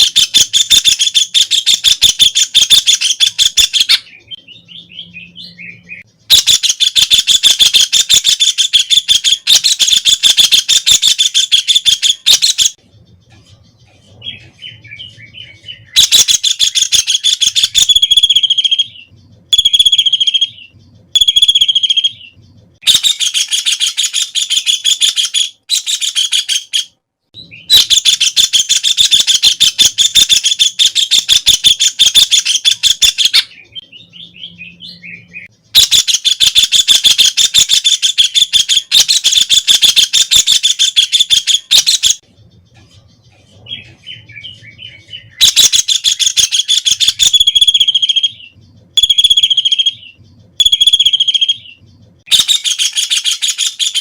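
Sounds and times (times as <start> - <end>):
soft bird calls: 0.0 - 54.0.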